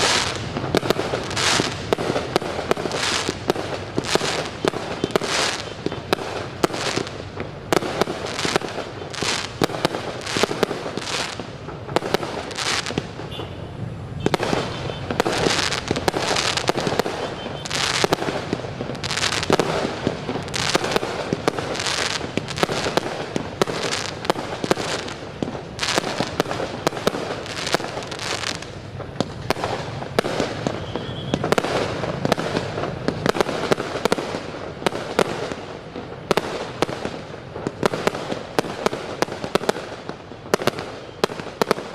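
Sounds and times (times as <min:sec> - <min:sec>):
fireworks banging and crackling: 0:00.0 - 0:41.9.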